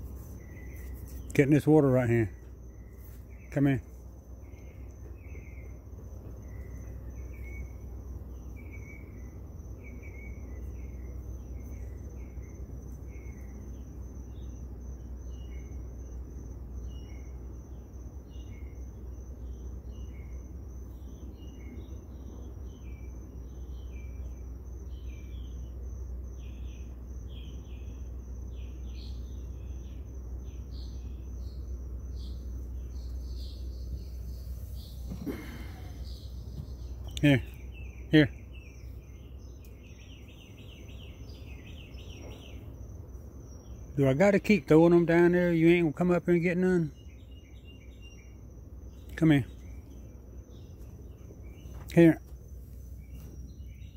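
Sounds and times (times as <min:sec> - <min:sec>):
cricket trill: 0:00.0 - 0:53.9
insect chirps: 0:00.0 - 0:53.9
low steady rumble: 0:00.0 - 0:53.9.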